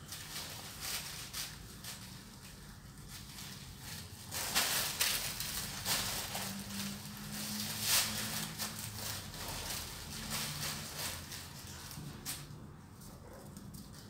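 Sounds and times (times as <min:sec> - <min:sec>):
plastic bag crinkling: 0:00.0 - 0:12.5.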